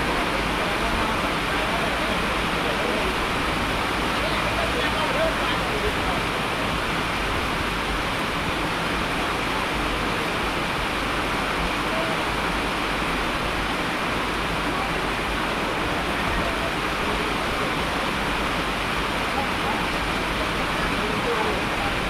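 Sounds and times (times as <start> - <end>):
heavy rain hissing: 0.0 - 22.0.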